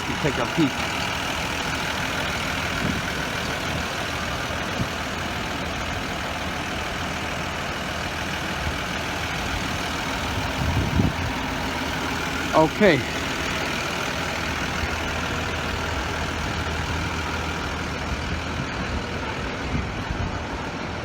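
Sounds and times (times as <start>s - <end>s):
large vehicle engine idling: 0.0s - 21.0s.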